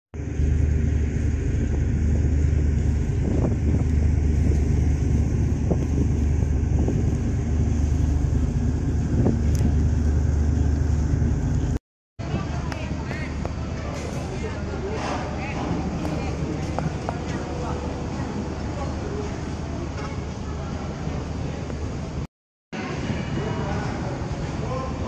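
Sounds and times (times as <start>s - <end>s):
ferry engine rumble: 0.2s - 25.0s.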